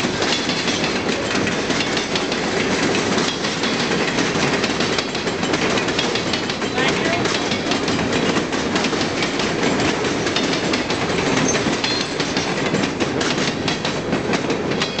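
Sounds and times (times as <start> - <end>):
freight train rumbling past: 0.0 - 15.0
wheels clicking over rail joints: 0.0 - 15.0.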